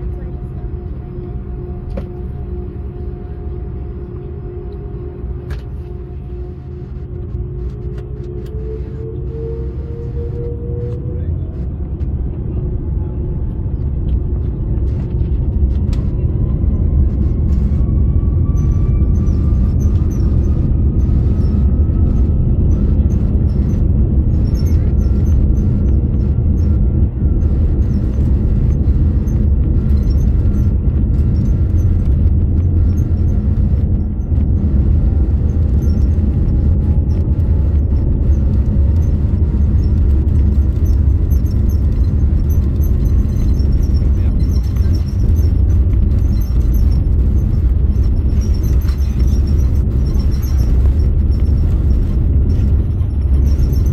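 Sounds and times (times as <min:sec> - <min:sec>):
faint engine whine: 0:00.0 - 0:53.9
jet engines deep rumble: 0:00.0 - 0:53.9.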